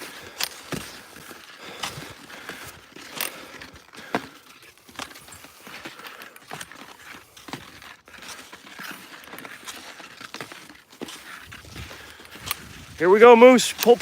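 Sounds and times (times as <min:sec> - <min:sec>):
skis and footsteps on snow: 0:00.0 - 0:14.0.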